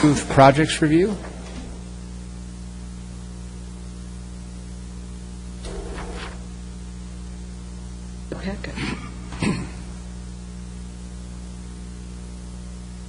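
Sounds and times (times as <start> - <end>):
electrical mains hum with hiss: 0.0 - 13.0.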